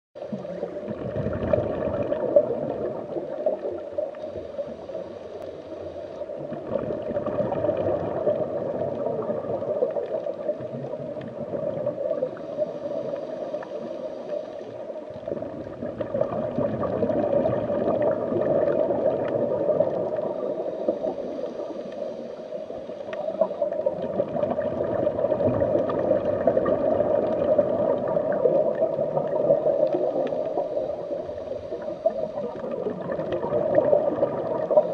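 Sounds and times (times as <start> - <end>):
underwater gurgling bubbling water: 0.2 - 34.9.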